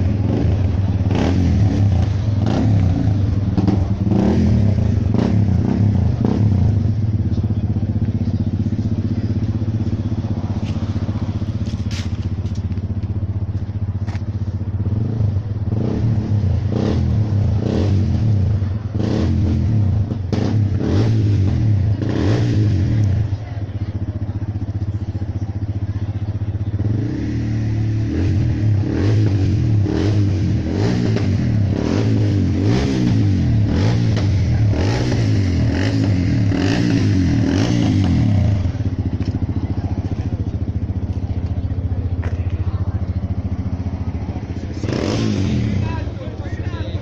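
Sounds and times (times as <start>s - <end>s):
vehicle engine idling: 0.0s - 19.0s, 21.5s - 47.0s.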